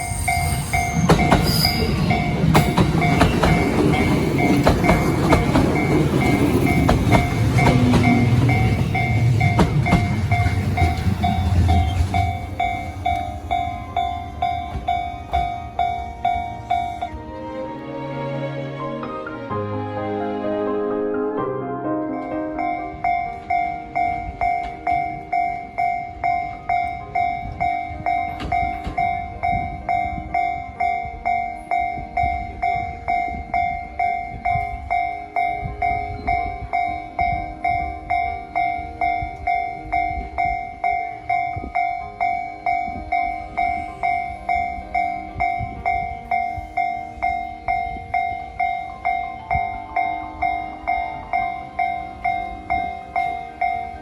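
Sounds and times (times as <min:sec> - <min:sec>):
level-crossing warning bell: 0:00.0 - 0:17.3, 0:22.0 - 0:54.0
train rumble and rail clatter: 0:00.0 - 0:19.6, 0:22.6 - 0:54.0.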